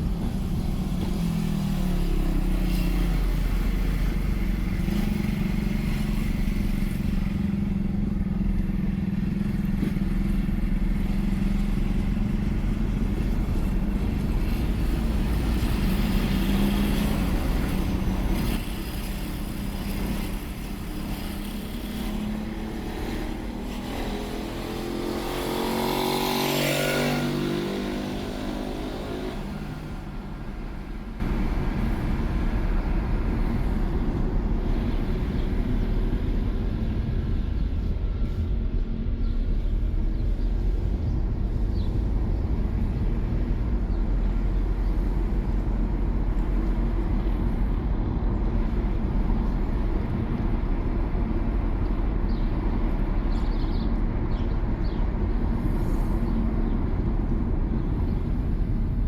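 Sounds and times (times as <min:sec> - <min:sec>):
car road and engine rumble: 0:00.0 - 0:59.0
passing vehicle engine: 0:00.0 - 0:59.0.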